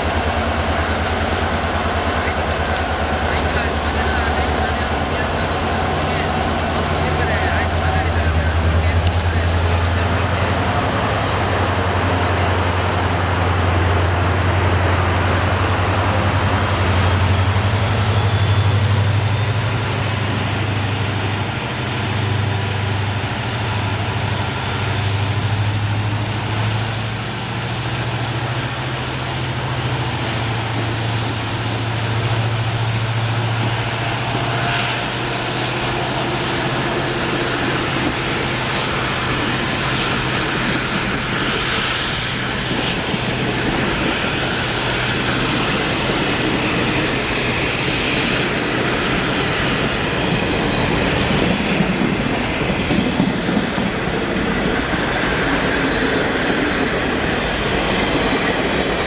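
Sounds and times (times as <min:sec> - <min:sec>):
diesel locomotive engine under load: 0:00.0 - 0:59.0.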